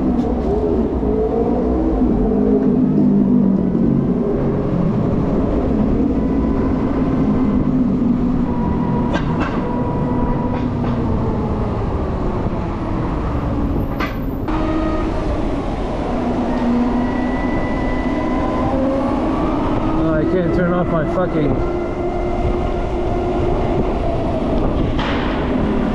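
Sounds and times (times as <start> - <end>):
city traffic: 0.0 - 25.9
wind rumble: 0.0 - 25.9.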